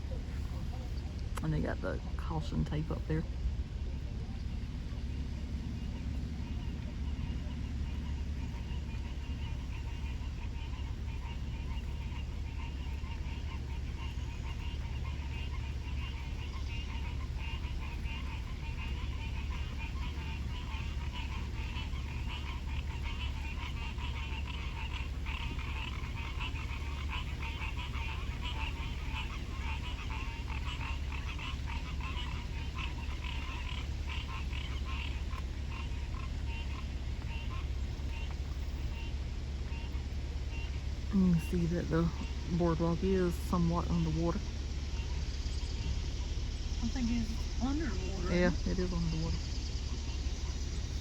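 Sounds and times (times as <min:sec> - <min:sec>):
frogs calling: 0:00.0 - 0:51.0
steady low hum: 0:00.0 - 0:51.0.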